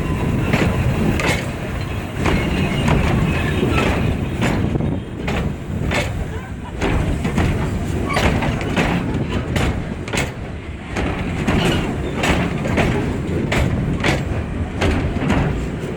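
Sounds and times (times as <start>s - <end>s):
sharp knocks of train wheels: 0.0s - 15.9s
train rumbling past: 0.0s - 15.9s.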